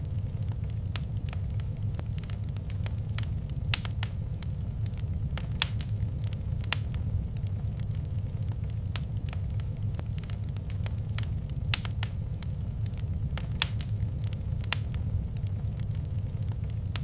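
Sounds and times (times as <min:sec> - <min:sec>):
fire low rumble: 0:00.0 - 0:17.0
wood fire popping and snapping: 0:00.0 - 0:17.0.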